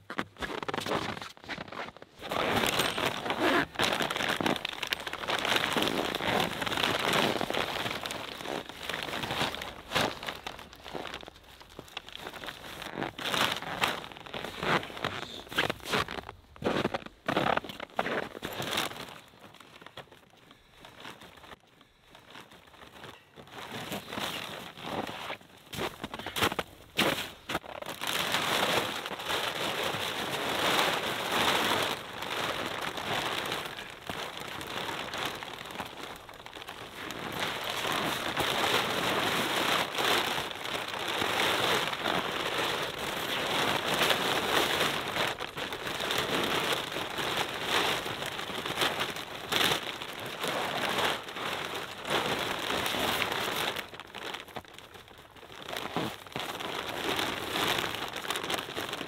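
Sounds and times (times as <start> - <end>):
tent fabric rustling: 0.0 - 54.7, 55.5 - 59.0.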